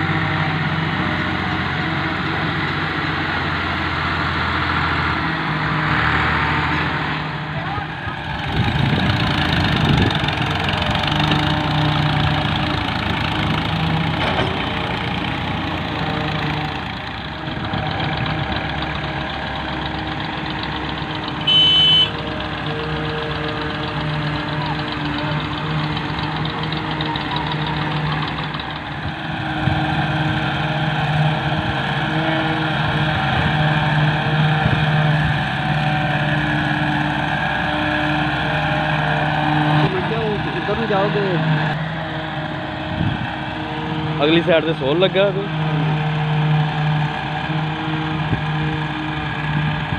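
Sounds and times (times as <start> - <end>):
diesel engines idling: 0.0 - 49.9.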